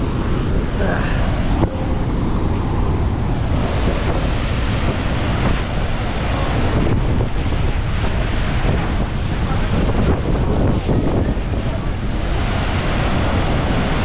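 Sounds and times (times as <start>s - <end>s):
waterfall rushing with deep rumble: 0.0s - 14.0s.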